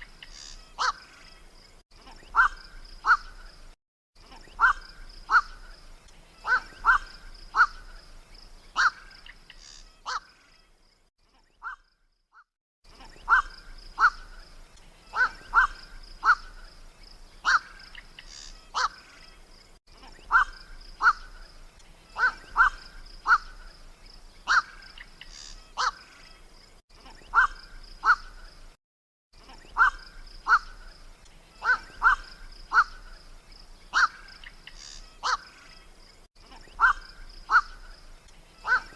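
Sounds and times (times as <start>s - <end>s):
night heron calls: 0.0s - 1.2s, 2.2s - 3.7s, 4.3s - 10.4s, 13.0s - 16.8s, 17.4s - 19.3s, 20.2s - 26.3s, 27.2s - 28.6s, 29.4s - 38.9s.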